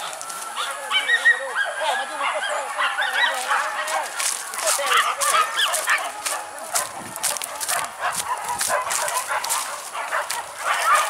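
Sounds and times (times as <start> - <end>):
dogs yelping and baying: 0.0 - 11.0.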